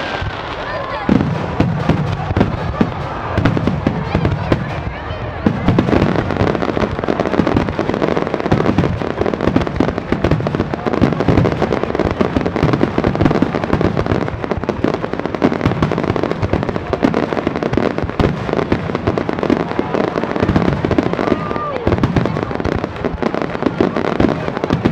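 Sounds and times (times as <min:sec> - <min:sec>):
fireworks bursting: 0:00.0 - 0:24.9.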